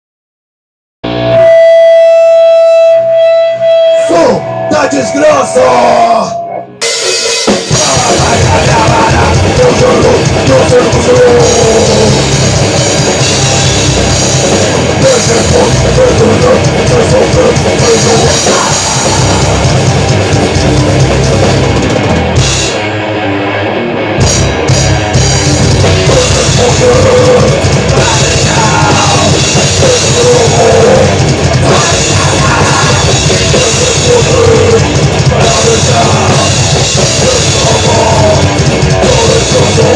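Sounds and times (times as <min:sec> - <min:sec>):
distorted guitar and bass: 0:01.0 - 0:39.9
pounding drum kit: 0:06.8 - 0:39.9.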